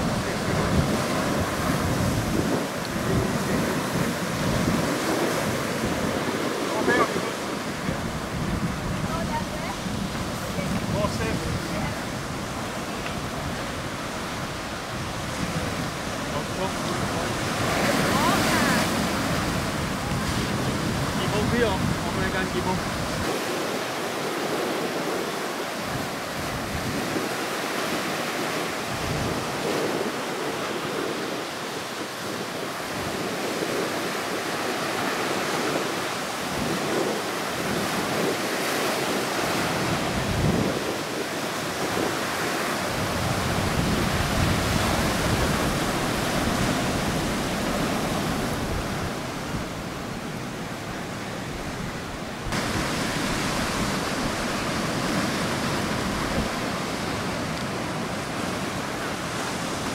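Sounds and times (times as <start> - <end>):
sea surf breaking: 0.0 - 59.9.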